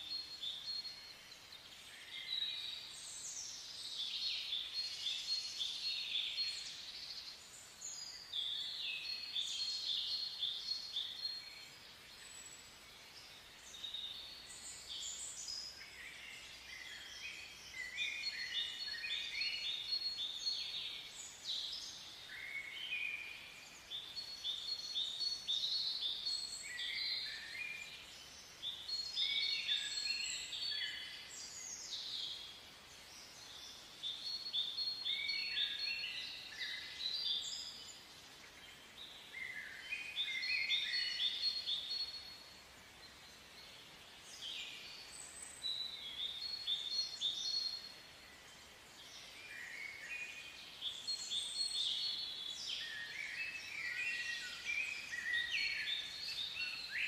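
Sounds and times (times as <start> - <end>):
faint steady hiss: 0.0 - 57.0
songbirds chirping: 0.0 - 57.0.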